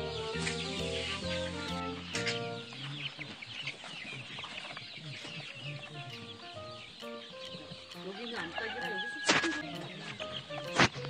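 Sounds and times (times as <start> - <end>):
soft background music: 0.0 - 3.2, 5.1 - 11.0
chicks peeping: 0.0 - 11.0.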